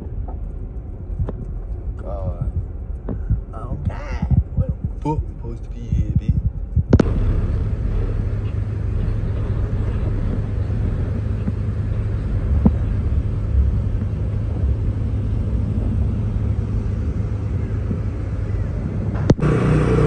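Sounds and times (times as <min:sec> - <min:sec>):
car engine rumble: 0:00.0 - 0:20.0.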